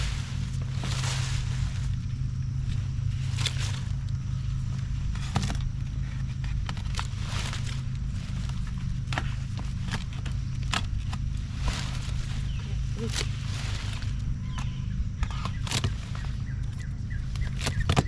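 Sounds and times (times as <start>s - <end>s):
leaves rustling and crunching: 0.0s - 18.0s
steady low hum: 0.0s - 18.0s.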